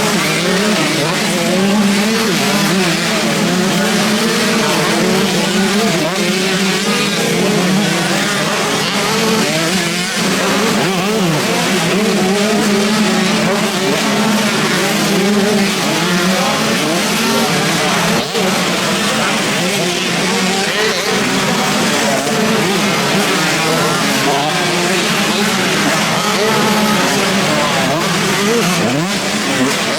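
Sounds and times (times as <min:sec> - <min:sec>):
motocross motorcycles revving: 0:00.0 - 0:29.9.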